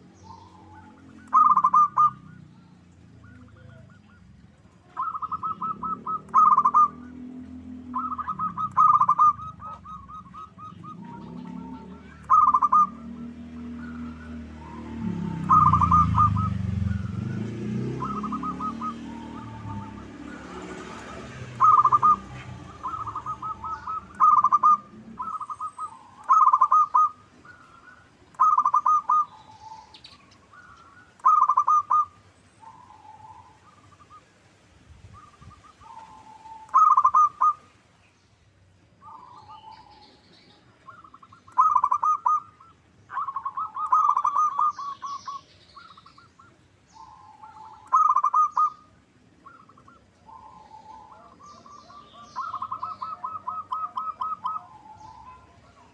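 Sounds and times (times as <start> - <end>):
dove cooing: 0.0 - 34.2, 35.2 - 37.7, 39.0 - 55.9
small birds chirping: 0.0 - 55.9.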